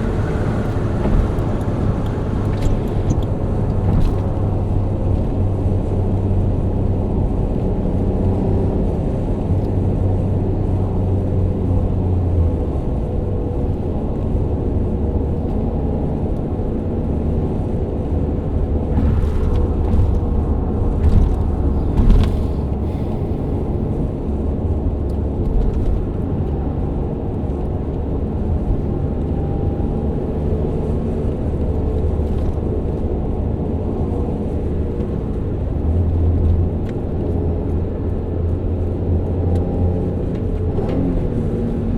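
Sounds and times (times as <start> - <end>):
car engine running steadily: 0.0 - 41.9.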